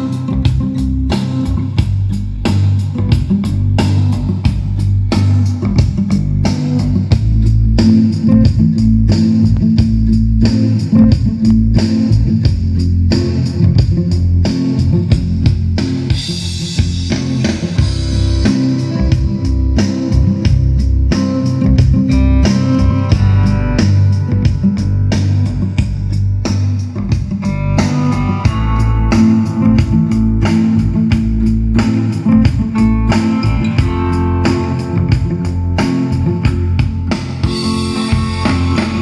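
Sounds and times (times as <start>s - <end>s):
rock music through speakers: 0.0s - 39.0s.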